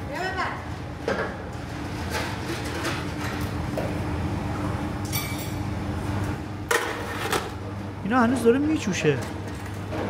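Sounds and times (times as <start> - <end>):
low kitchen hum: 0.0 - 10.0.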